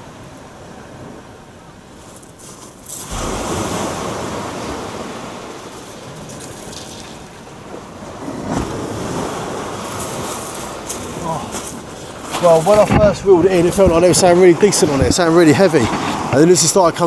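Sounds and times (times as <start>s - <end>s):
wind buffeting microphone: 0.0s - 17.0s
surf breaking on shingle beach: 2.0s - 17.0s.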